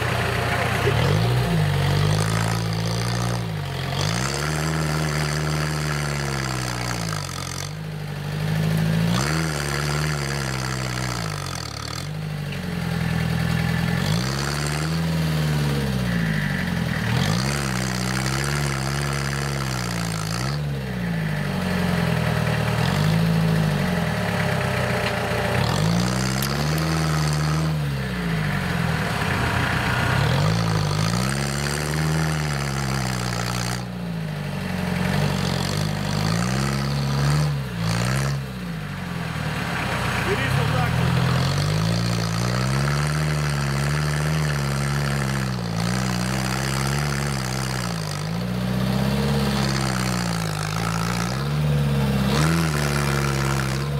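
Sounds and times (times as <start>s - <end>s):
tractor engine revving: 0.0s - 53.9s.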